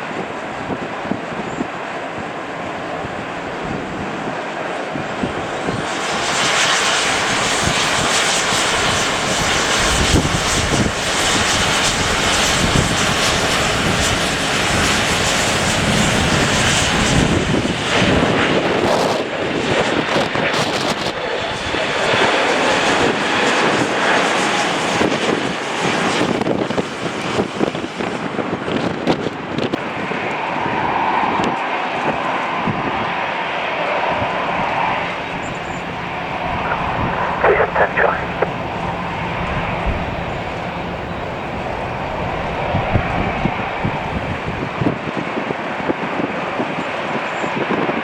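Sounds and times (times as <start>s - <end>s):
jet engines roaring: 0.0s - 28.6s, 29.4s - 47.7s
wind buffeting microphone: 0.1s - 48.0s.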